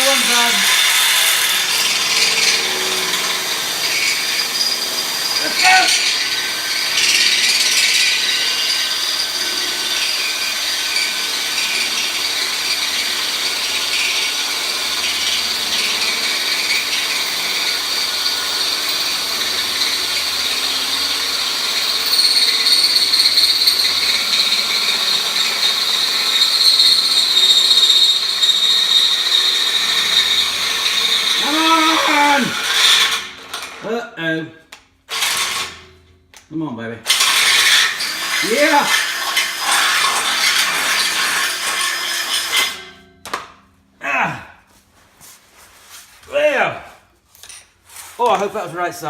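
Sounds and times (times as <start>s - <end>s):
power drill squealing through metal: 0.0s - 33.8s, 35.1s - 36.0s, 37.1s - 43.2s.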